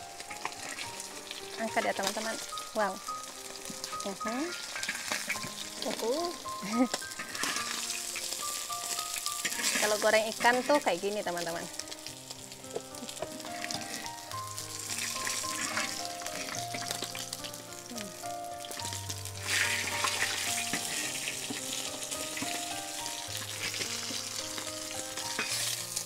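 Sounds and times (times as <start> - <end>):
fish sizzling in hot oil: 0.0 - 26.0
soft background music: 0.0 - 26.0.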